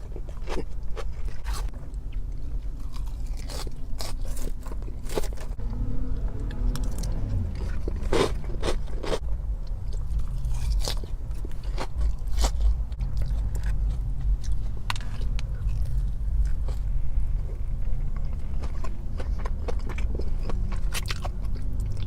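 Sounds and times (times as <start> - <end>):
person chewing crunchy food: 0.0 - 22.0
steady low hum: 0.0 - 22.0.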